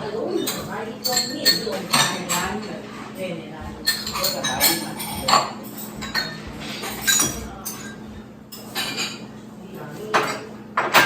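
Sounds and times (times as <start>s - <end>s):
dishes and cutlery clinking: 0.0s - 11.0s.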